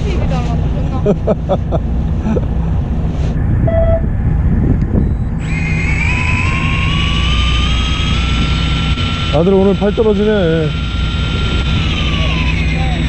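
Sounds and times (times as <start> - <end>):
boat engine rumbling: 0.0 - 13.0
engine whine rising in pitch: 1.3 - 13.0.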